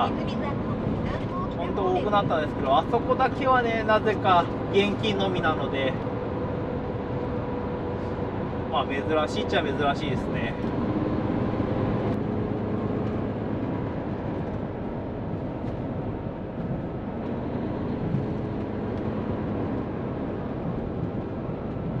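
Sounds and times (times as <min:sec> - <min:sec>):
diesel engine drone: 0:00.0 - 0:22.0
tyre and road noise: 0:00.0 - 0:22.0.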